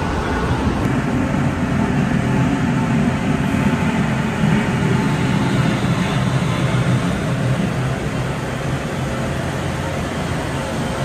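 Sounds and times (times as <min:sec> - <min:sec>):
locomotive low drone: 0:00.0 - 0:11.0.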